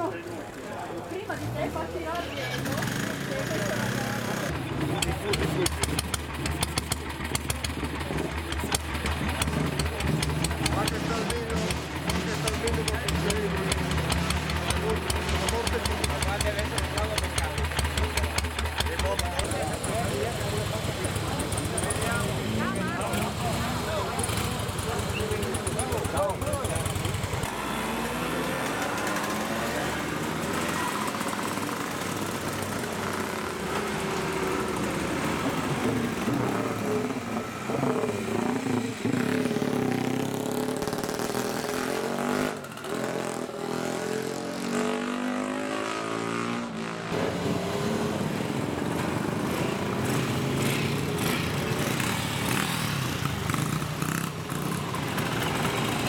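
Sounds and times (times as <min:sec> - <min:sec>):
motorcycles revving past: 0:09.3 - 0:56.0.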